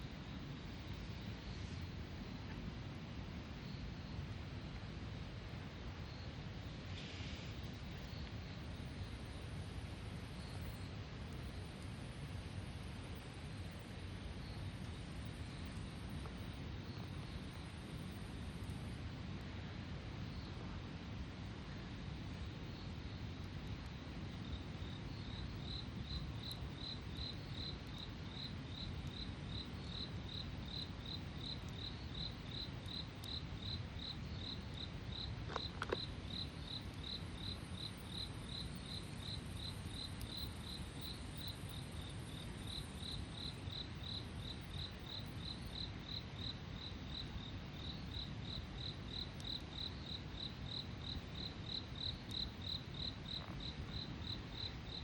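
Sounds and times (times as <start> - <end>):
cricket chirping: 3.2 - 20.8, 21.6 - 55.0.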